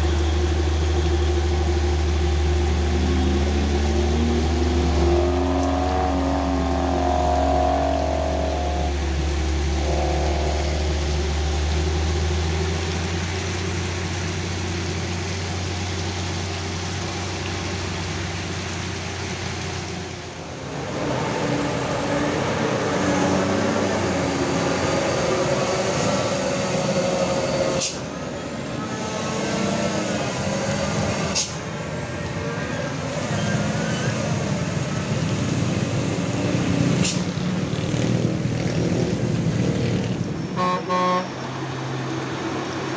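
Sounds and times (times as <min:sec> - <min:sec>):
rain hiss on wet road: 0:00.0 - 0:40.8
truck diesel engines labouring: 0:00.0 - 0:42.9.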